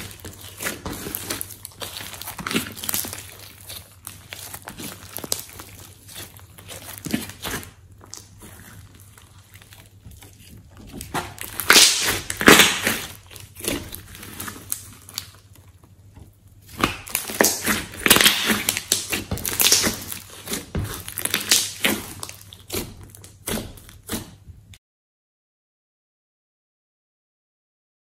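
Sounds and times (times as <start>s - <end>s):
slime crackling and popping: 0.0s - 24.4s
slime squishing: 0.0s - 24.8s.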